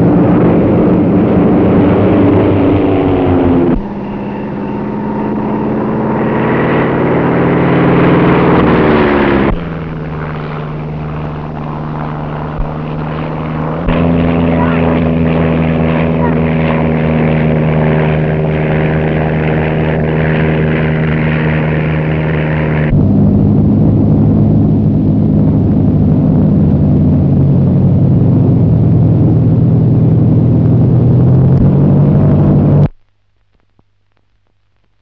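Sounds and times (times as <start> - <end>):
propeller plane engine in flight: 0.0 - 33.0.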